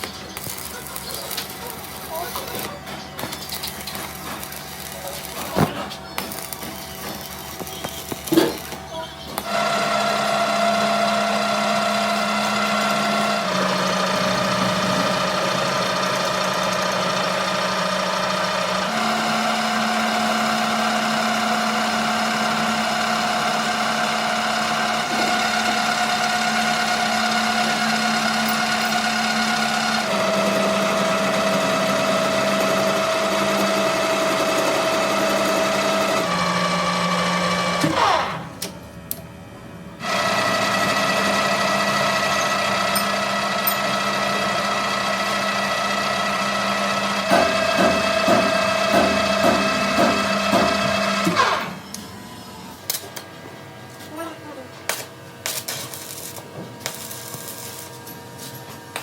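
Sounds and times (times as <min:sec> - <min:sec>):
machine motor humming: 0:00.0 - 0:54.6.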